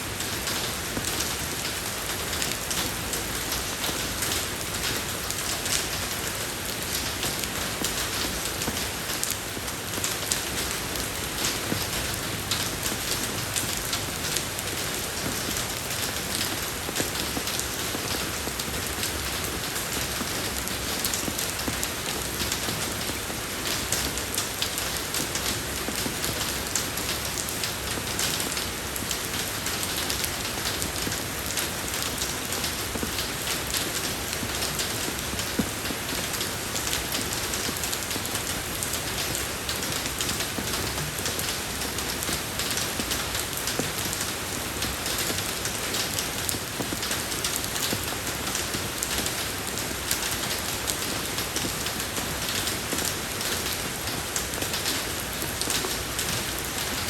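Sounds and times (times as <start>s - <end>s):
rain falling on a road: 0.0s - 57.0s.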